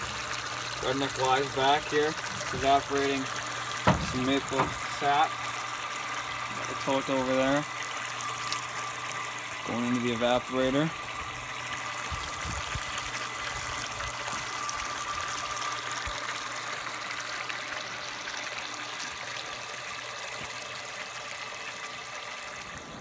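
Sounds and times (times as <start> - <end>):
sap flowing into metal pan: 0.0 - 20.7.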